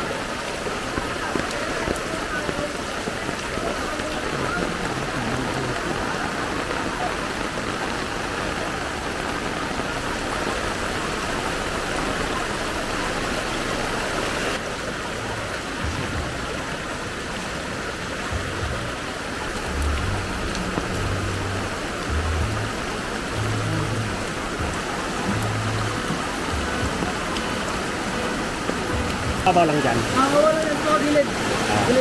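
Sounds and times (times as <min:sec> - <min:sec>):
floodwater rushing: 0:00.0 - 0:32.0
rain: 0:00.0 - 0:32.0.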